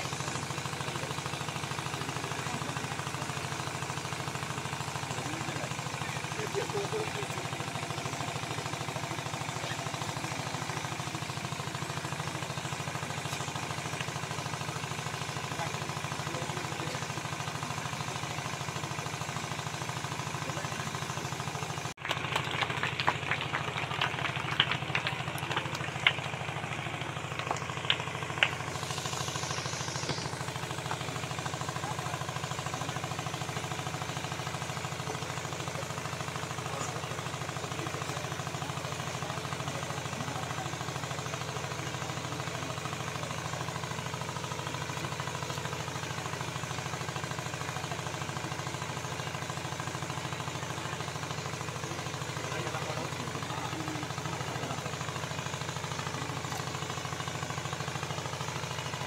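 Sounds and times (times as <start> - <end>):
low engine-like drone: 0.0 - 59.0.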